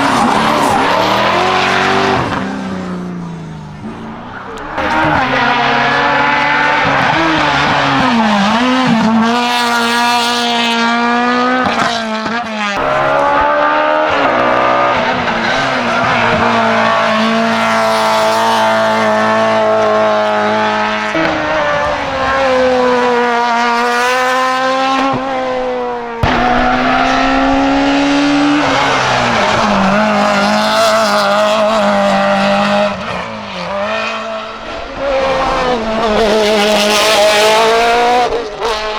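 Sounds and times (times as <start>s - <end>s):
racing car engine at full throttle: 0.0s - 38.9s.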